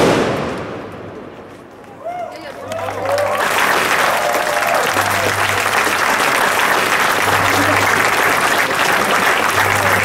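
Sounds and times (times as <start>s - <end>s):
large crowd applauding: 1.8s - 10.0s.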